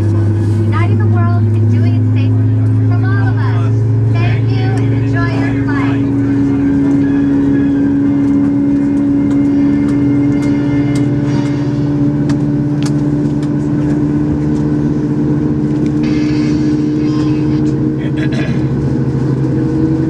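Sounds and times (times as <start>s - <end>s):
airplane cabin engine hum: 0.0s - 20.0s.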